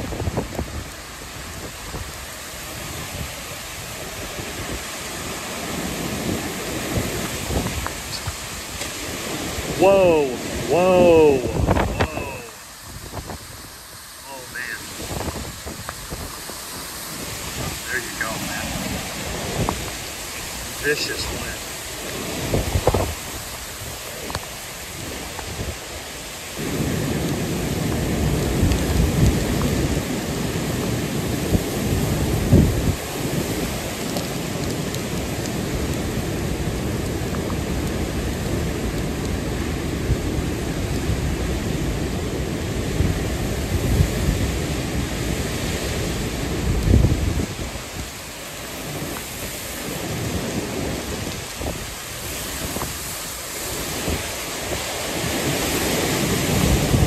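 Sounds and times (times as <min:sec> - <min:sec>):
heavy rain rushing: 0:00.0 - 0:57.0
wind gusts buffeting microphone: 0:00.0 - 0:57.0.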